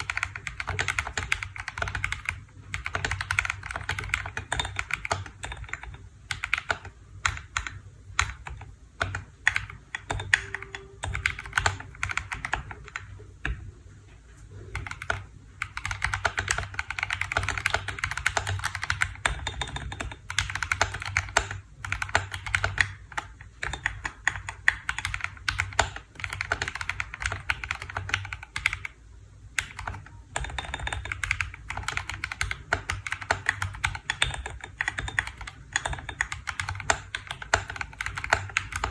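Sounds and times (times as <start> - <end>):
mechanical keyboard typing: 0.0 - 13.6, 14.6 - 38.9.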